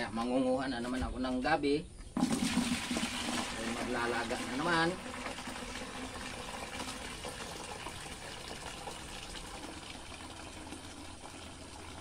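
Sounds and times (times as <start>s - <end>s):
water pouring into plastic bucket: 2.2s - 12.0s.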